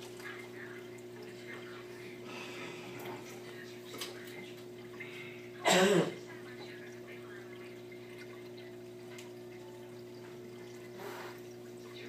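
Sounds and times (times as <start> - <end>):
aquarium low hum: 0.0 - 12.0
water trickling: 0.0 - 12.0.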